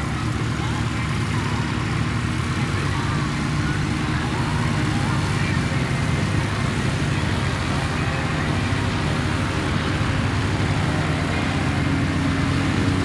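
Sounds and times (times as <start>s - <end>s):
propeller plane engine running: 0.0s - 13.0s.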